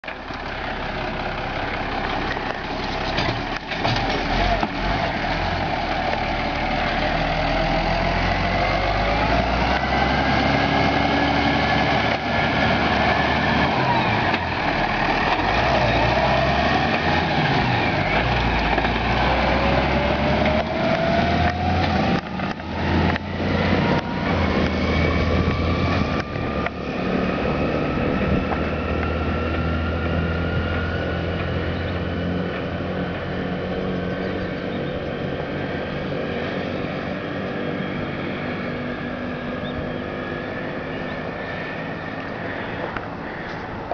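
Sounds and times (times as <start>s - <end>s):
tractor diesel engine: 0.0s - 43.9s.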